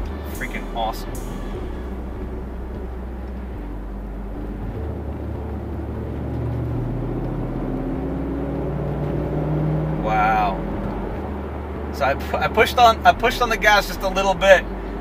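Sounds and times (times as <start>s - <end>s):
car engine from inside cabin: 0.0s - 15.0s.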